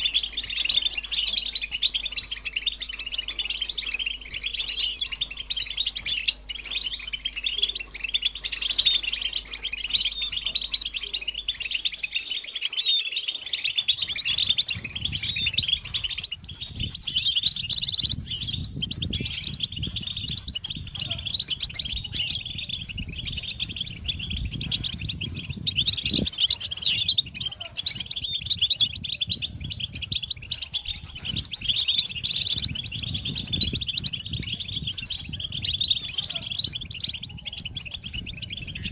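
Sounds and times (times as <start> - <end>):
goldfinches twittering and singing: 0.0 - 38.9.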